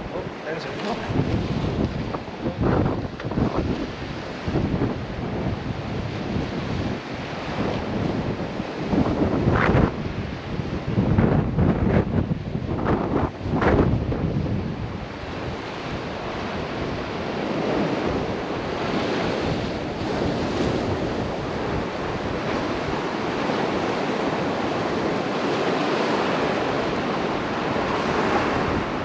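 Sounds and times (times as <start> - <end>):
sea waves washing on shore: 0.0 - 29.0
wind buffeting microphone: 0.0 - 29.0.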